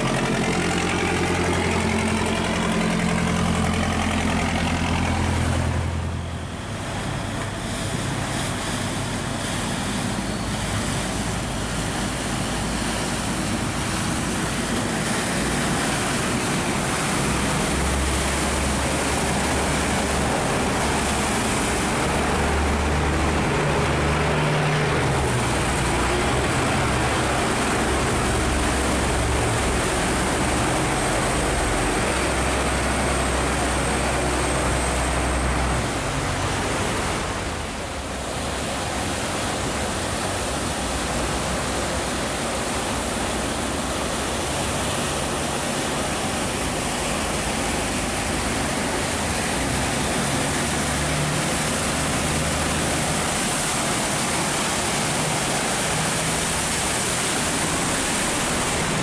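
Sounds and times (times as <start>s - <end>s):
boat engines humming: 0.0s - 59.0s
water rushing through sluice gate: 0.0s - 59.0s.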